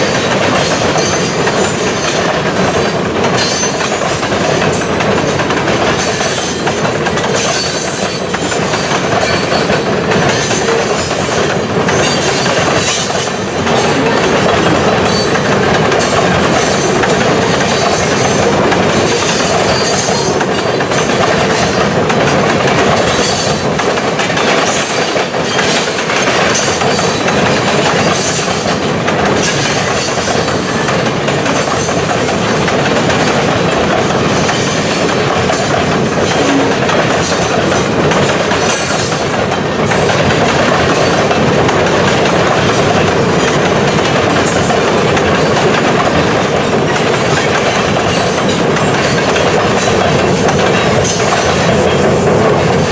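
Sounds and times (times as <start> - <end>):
freight train rumbling past: 0.0 - 52.9
wheels clicking over rail joints: 0.0 - 52.9.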